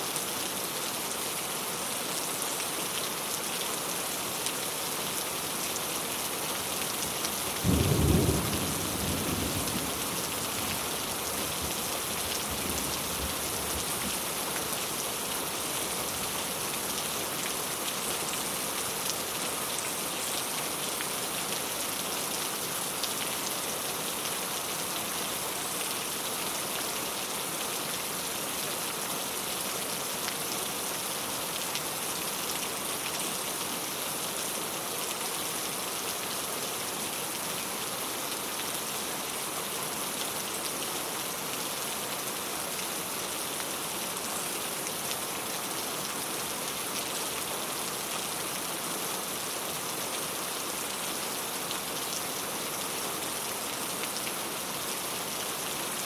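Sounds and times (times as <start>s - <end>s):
rain pattering on a tile roof: 0.1s - 56.0s.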